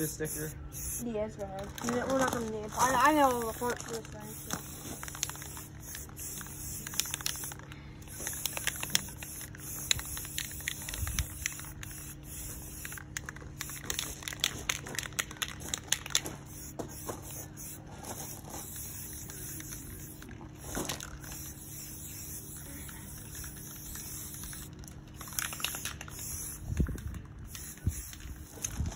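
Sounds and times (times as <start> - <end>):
spray can hissing: 0.0 - 1.1, 2.8 - 28.9.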